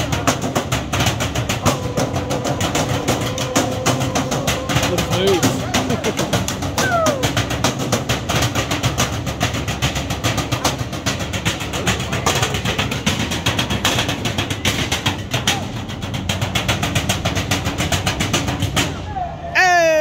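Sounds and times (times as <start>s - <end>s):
drumming on metal trash cans: 0.0s - 19.2s.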